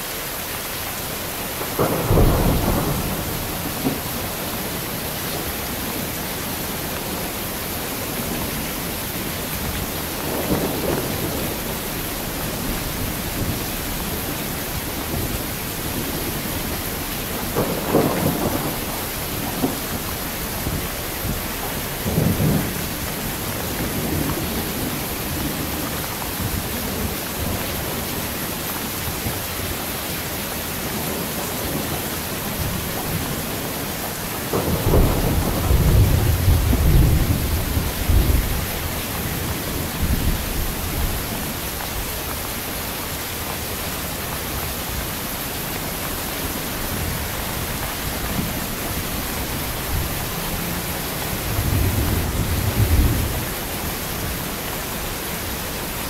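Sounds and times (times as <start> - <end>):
heavy rain: 0.0 - 56.0
thunder clap and rumble: 1.5 - 29.9, 30.7 - 42.4, 46.0 - 56.0.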